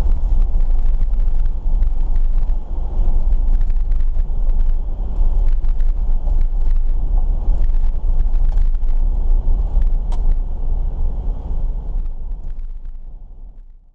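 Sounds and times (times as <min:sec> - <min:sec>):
gravel clicks and rattles: 0:00.0 - 0:10.5, 0:11.9 - 0:13.8
vehicle engine and tyre rumble: 0:00.0 - 0:13.9.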